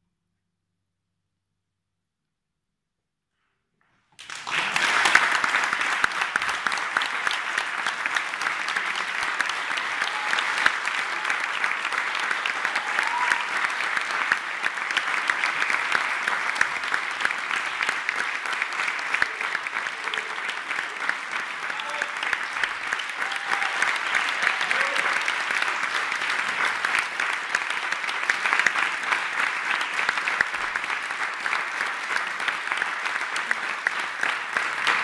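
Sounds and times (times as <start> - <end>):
audience applause: 4.2 - 35.0.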